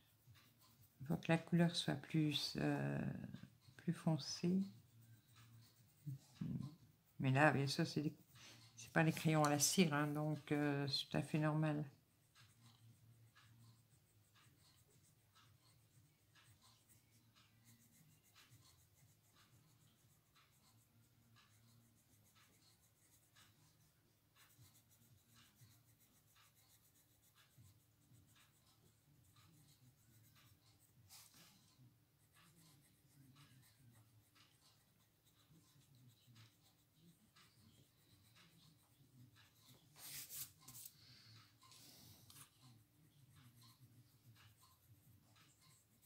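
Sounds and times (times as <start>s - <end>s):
pencil scratching on paper: 0.0s - 46.0s.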